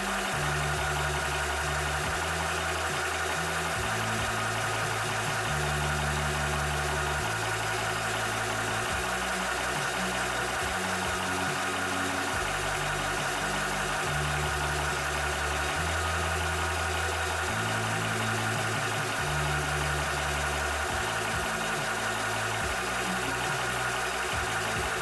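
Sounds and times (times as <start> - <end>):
air compressor running: 0.0 - 25.0.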